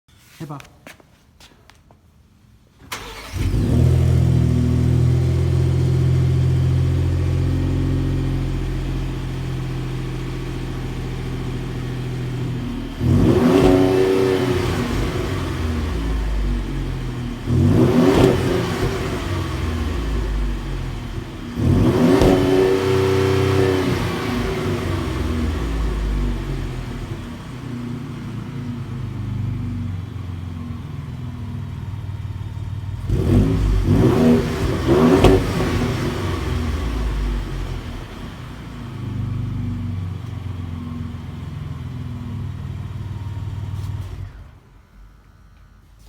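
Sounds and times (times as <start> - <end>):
truck engine starting and idling: 2.8 - 46.0
engine revving: 2.9 - 40.2.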